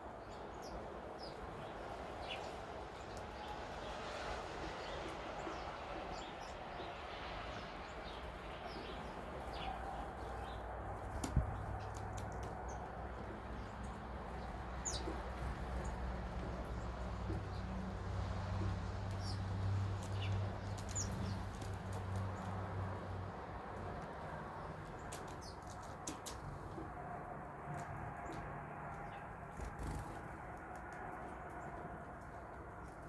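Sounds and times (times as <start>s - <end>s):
small birds chirping: 0.0s - 23.1s, 23.7s - 26.9s, 27.7s - 33.0s.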